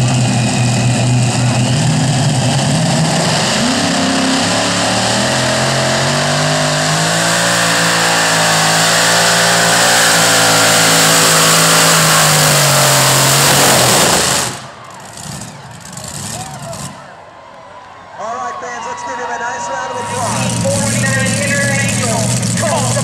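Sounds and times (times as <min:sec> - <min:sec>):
tractor engine at full throttle: 0:00.0 - 0:17.2, 0:20.0 - 0:23.0.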